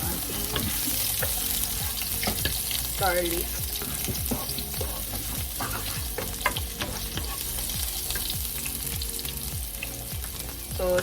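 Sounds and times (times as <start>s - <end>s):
utensil stirring in pan: 0.0s - 10.5s
garlic sizzling in oil: 0.0s - 11.0s.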